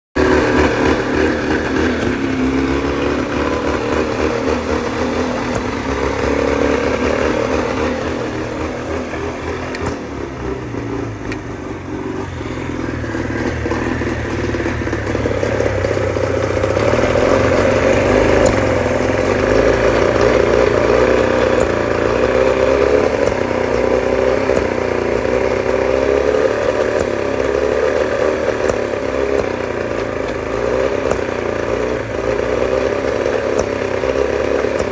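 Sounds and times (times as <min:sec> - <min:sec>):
outboard motor running unevenly: 0:00.2 - 0:34.9.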